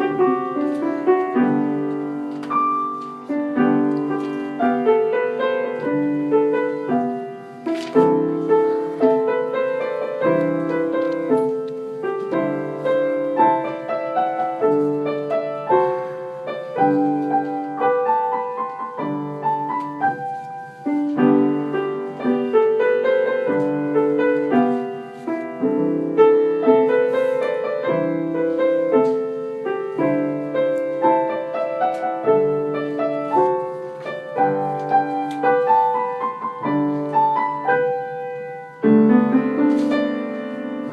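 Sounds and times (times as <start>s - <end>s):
lively piano music: 0.0s - 40.9s.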